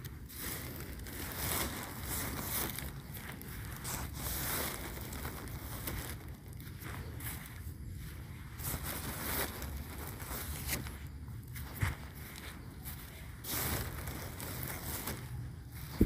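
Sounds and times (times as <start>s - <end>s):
footsteps crunching through dry grass: 0.0s - 16.0s.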